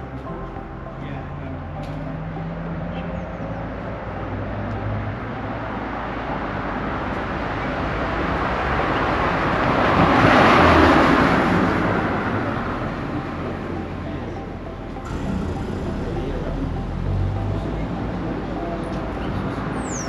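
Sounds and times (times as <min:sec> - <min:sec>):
vehicle driving past: 0:00.0 - 0:20.0.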